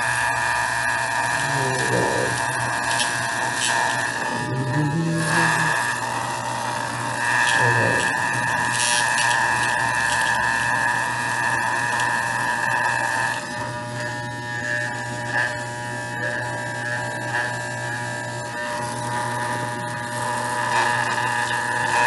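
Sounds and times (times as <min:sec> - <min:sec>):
electric dog clippers buzzing: 0:00.0 - 0:22.0.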